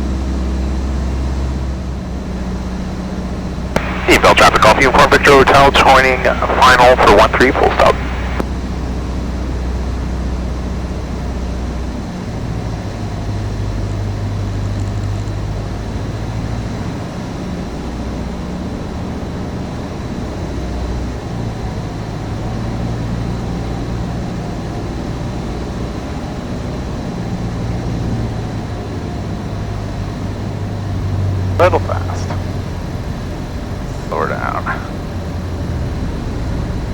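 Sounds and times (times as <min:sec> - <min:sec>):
aircraft engine and propeller droning: 0:00.0 - 0:36.9.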